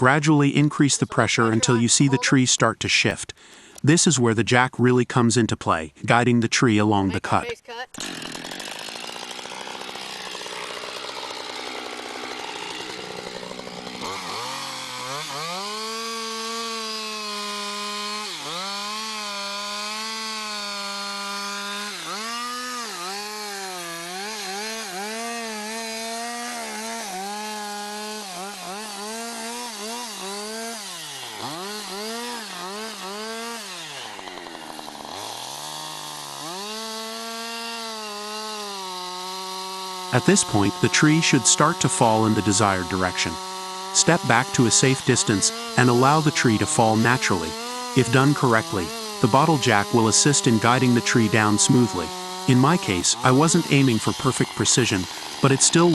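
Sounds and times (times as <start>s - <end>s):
chainsaw cutting wood: 0.0s - 2.5s, 7.0s - 55.9s.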